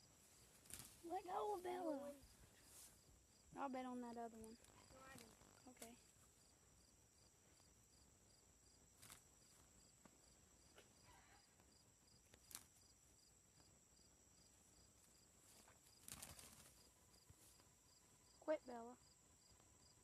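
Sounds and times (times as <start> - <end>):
faint insect chirring: 0.0 - 20.0.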